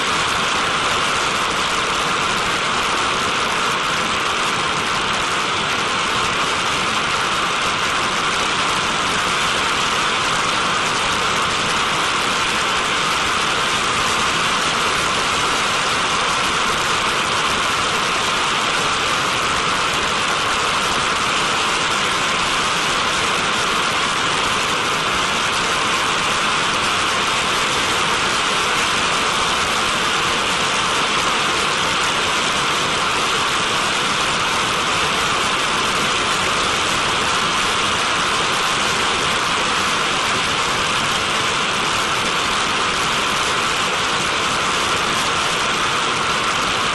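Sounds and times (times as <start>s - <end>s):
turbojet engine rushing hiss: 0.0s - 46.9s.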